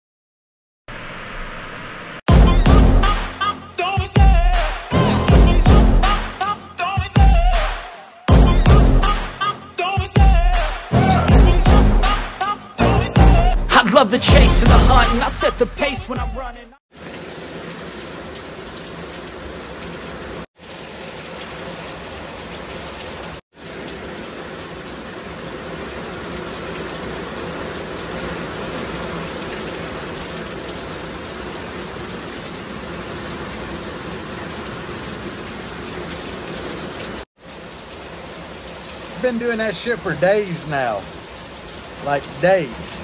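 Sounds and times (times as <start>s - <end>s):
heavy rain pouring: 2.3s - 43.0s.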